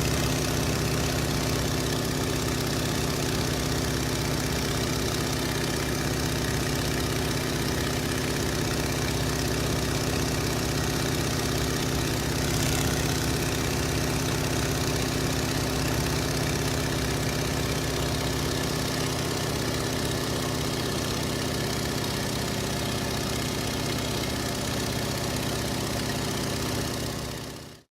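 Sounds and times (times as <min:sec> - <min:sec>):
biplane piston engine running: 0:00.0 - 0:27.6.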